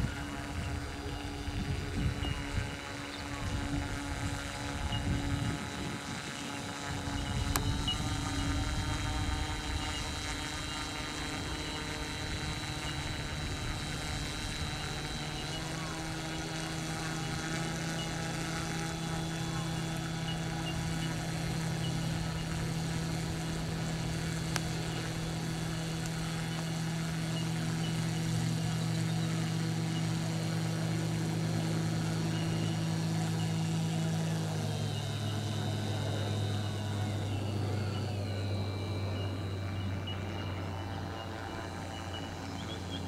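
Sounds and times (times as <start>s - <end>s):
model boat motor and propeller: 0.0s - 43.0s.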